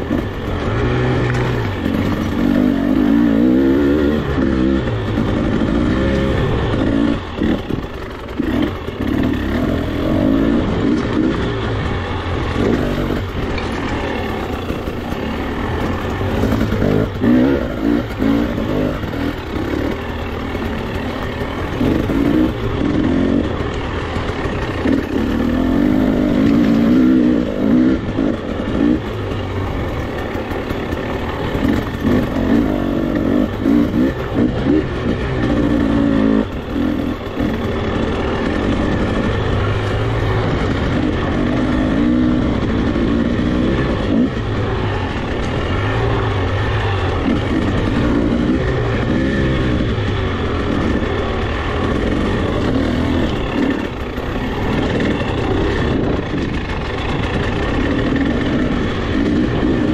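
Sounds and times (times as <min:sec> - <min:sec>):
motorcycle engine revving: 0:00.0 - 0:59.9
steady rushing noise: 0:00.0 - 0:59.9.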